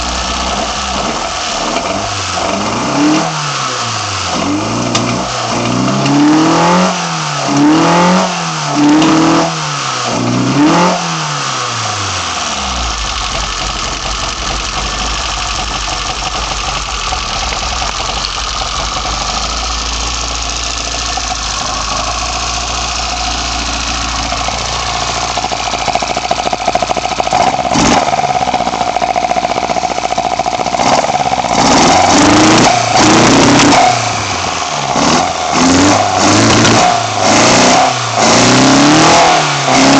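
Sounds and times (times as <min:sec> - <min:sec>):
car engine revving and idling: 0:00.0 - 0:39.9.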